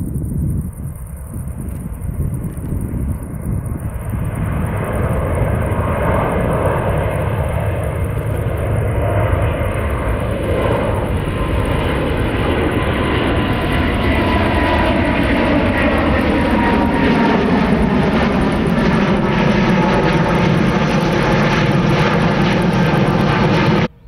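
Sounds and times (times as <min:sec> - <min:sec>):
faint steady whine: 0:00.0 - 0:24.0
jet engines at takeoff: 0:00.0 - 0:24.0.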